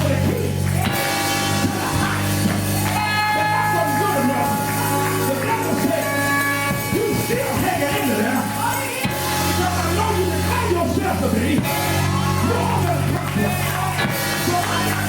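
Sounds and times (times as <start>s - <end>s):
organ chords: 0.0s - 15.0s
preacher chanting: 0.0s - 15.0s.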